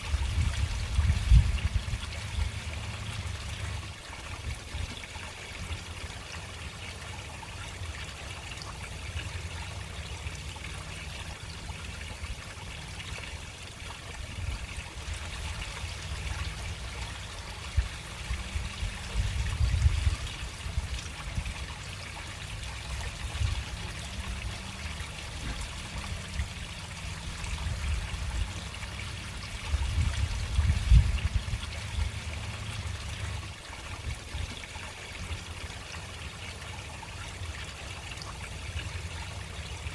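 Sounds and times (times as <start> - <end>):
water trickling in a storm drain: 0.0 - 39.9.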